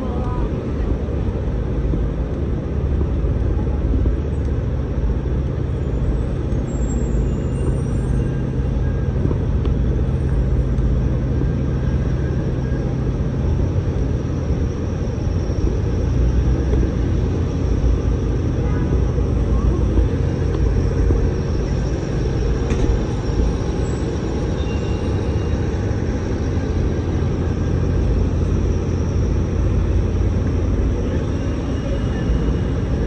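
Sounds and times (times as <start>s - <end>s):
city street traffic rumble: 0.0s - 33.0s
low engine-like hum: 0.0s - 33.0s.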